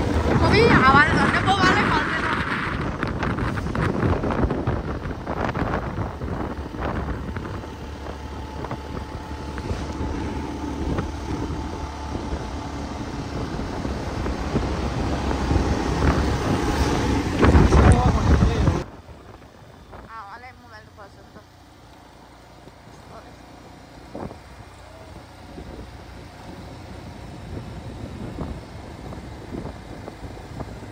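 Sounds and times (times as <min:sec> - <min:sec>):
wind noise on microphone: 0:00.0 - 0:20.6, 0:24.0 - 0:30.9
motorcycle engine running: 0:00.0 - 0:30.9.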